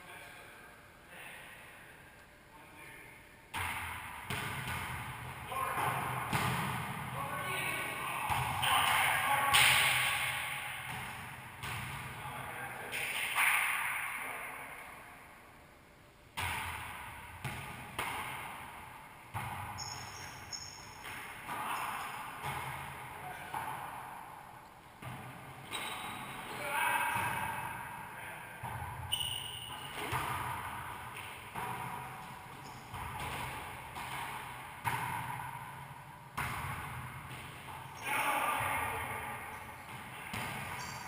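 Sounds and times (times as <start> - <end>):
volleyball hits echoing off walls: 3.5 - 15.6, 16.3 - 41.0.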